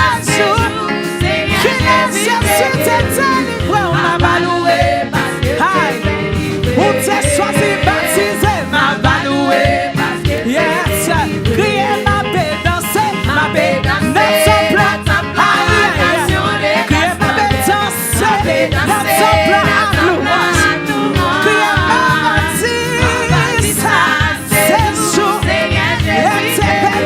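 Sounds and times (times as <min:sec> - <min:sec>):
church band playing: 0:00.0 - 0:27.0
person singing gospel song: 0:00.0 - 0:27.0.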